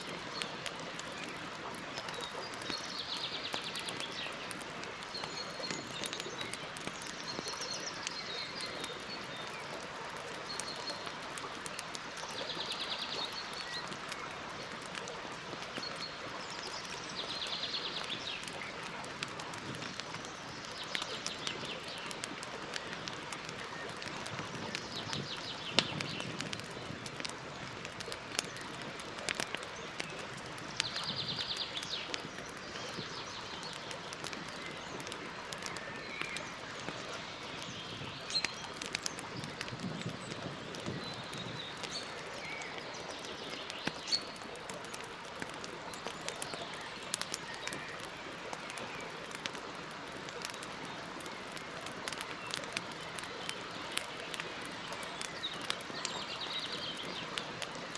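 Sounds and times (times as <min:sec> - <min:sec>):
campfire crackling: 0:00.0 - 0:57.9
small birds chirping: 0:00.0 - 0:57.9.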